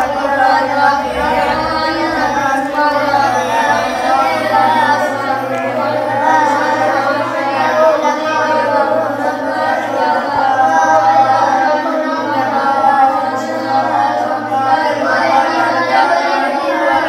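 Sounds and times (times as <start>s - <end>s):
boys reciting in a chant: 0.0s - 17.0s.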